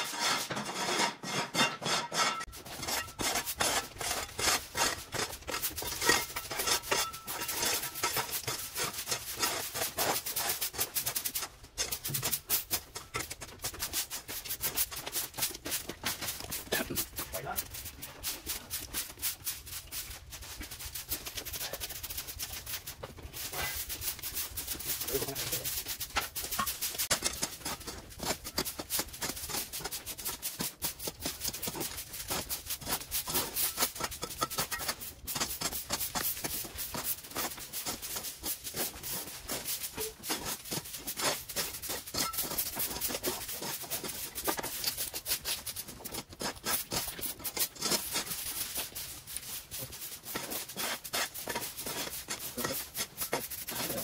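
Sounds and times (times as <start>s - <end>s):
rapid scrubbing strokes: 2.1s - 54.0s.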